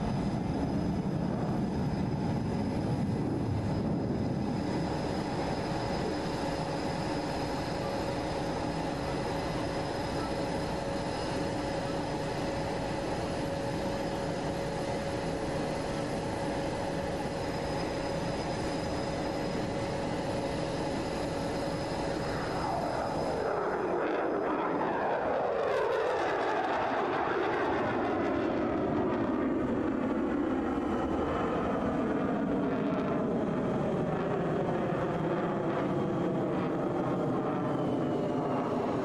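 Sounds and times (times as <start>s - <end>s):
fighter jet engine roar: 0.0s - 39.0s.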